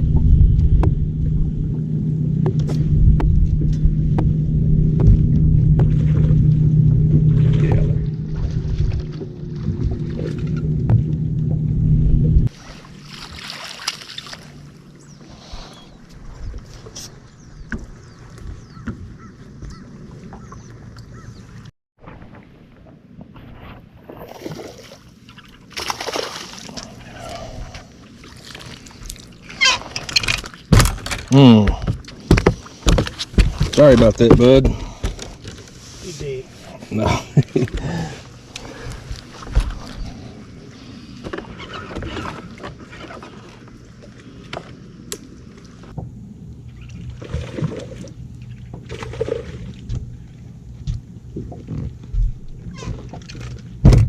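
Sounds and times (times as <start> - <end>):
low hum: 0.0 - 24.4, 25.2 - 54.0
water splashing against boat: 0.0 - 54.0.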